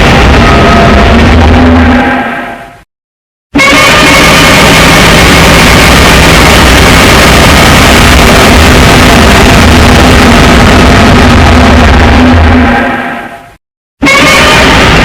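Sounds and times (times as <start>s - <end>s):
harsh sustained monster roar: 0.0s - 2.8s, 3.6s - 13.5s.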